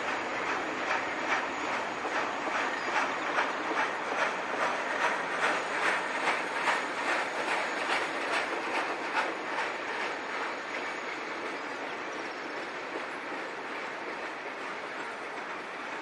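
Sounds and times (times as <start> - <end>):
train wheels clicking: 0.0 - 16.0
wheels rumbling on rail: 0.0 - 16.0.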